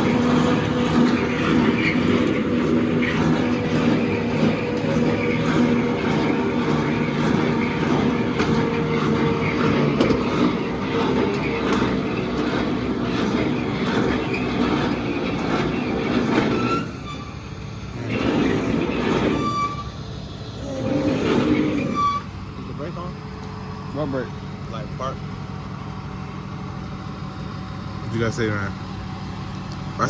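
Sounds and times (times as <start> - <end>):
vehicle rumble and rattle: 0.0 - 30.0.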